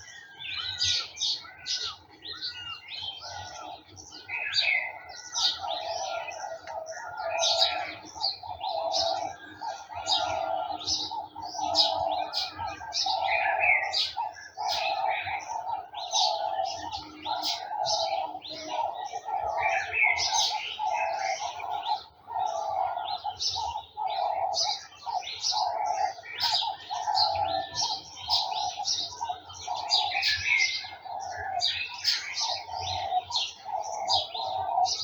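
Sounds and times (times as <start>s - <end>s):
birds chirping and singing: 0.0s - 35.0s
low bird call: 0.0s - 35.0s.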